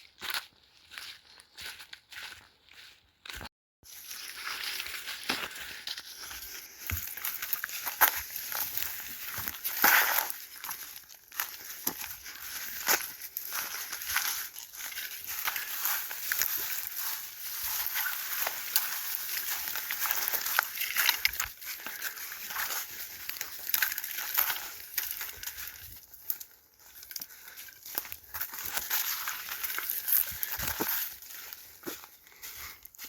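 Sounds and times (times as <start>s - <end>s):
footsteps crunching on forest trail: 0.0s - 33.0s.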